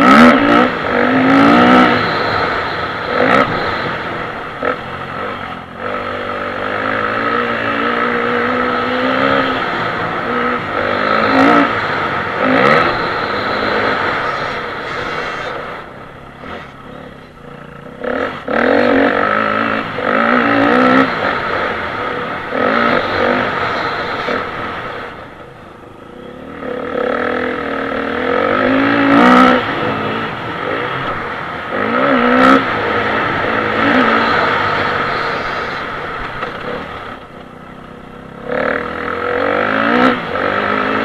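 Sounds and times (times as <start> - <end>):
dirt bike engine revving: 0.0 - 25.4, 26.1 - 41.0.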